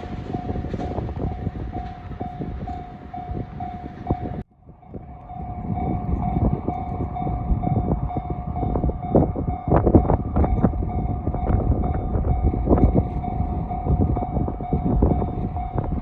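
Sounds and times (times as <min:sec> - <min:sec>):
level-crossing alarm ringing: 0:00.0 - 0:16.0
train rumble and wheel clatter: 0:00.0 - 0:16.0.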